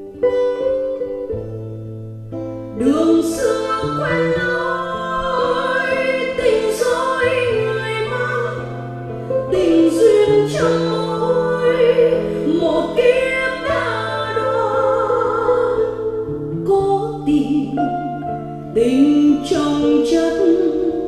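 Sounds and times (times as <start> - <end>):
bass line: 0.0 - 21.0
woman singing a slow ballad: 2.7 - 21.0.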